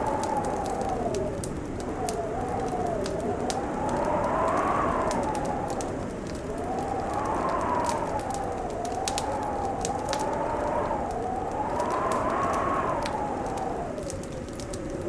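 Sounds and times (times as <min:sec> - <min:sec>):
fireplace crackling: 0:00.0 - 0:15.0
howling wind: 0:00.0 - 0:15.0.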